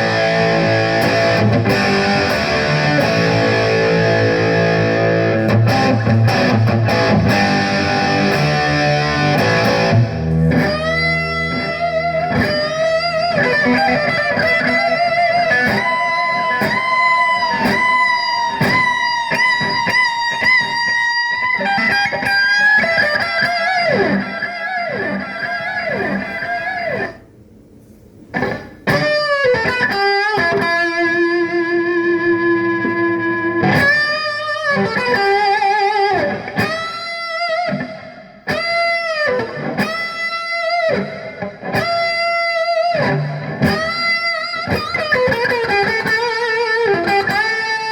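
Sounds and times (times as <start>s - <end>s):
electric guitar through amp: 0.0s - 47.9s.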